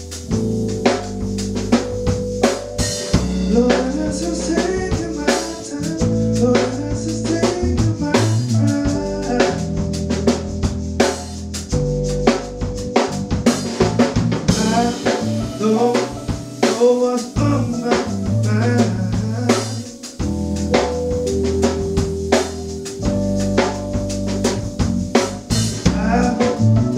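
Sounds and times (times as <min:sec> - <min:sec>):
live band playing soul-funk: 0:00.0 - 0:26.9.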